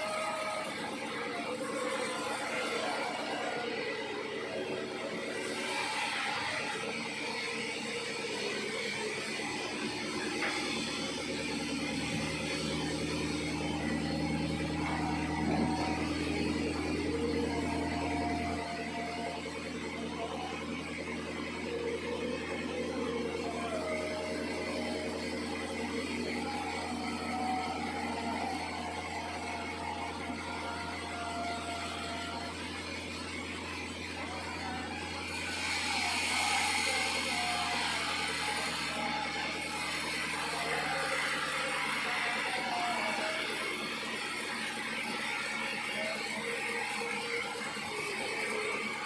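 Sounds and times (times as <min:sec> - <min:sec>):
sawmill machinery humming: 0:00.0 - 0:49.0.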